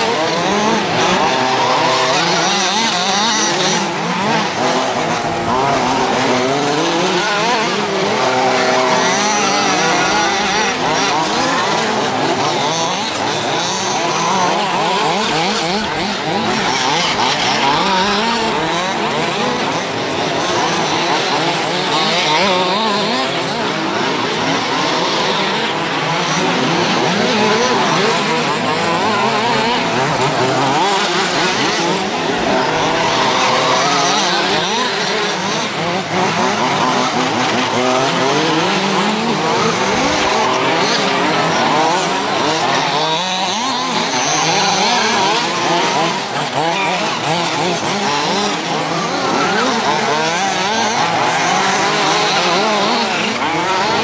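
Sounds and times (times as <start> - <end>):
small engines buzzing and revving: 0.0 - 54.0.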